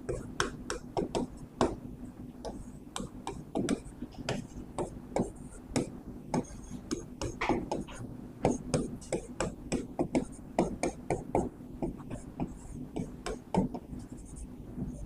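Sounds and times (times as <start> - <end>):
faint low hum: 0.0 - 15.0
writing taps and scrapes on board: 2.4 - 15.0.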